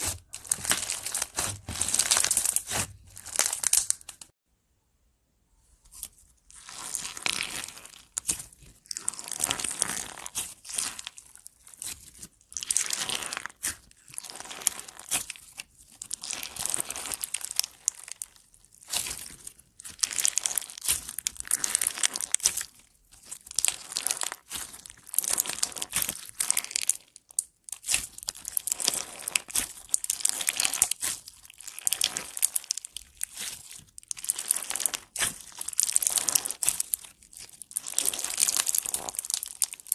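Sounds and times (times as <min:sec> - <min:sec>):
slime squeezed crackling: 0:00.0 - 0:04.3, 0:06.5 - 0:39.9.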